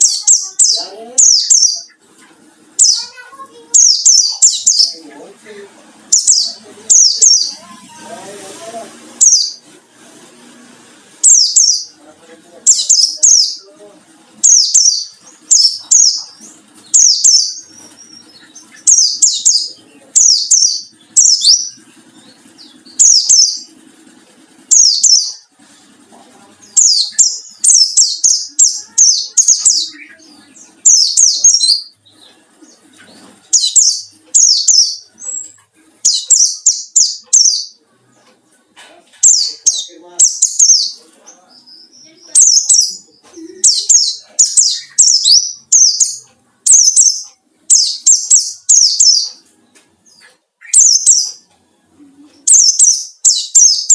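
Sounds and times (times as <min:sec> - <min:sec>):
bird chirping in high bursts: 0:00.0 - 0:05.0, 0:06.0 - 0:09.8, 0:11.1 - 0:12.0, 0:12.6 - 0:13.7, 0:14.4 - 0:25.6, 0:26.6 - 0:37.8, 0:39.2 - 0:41.0, 0:41.6 - 0:51.5, 0:52.4 - 0:53.9.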